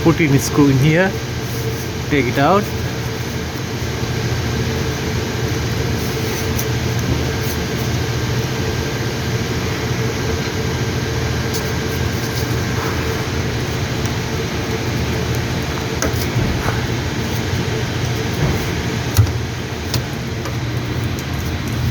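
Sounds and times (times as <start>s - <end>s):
steady mechanical hum: 0.0s - 21.9s.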